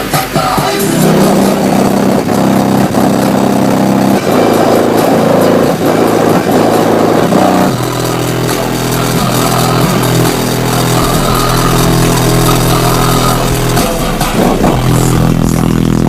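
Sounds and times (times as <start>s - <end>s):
loud subwoofer bass notes: 0.0s - 16.0s
roof panel buzzing and rattling: 0.0s - 16.0s.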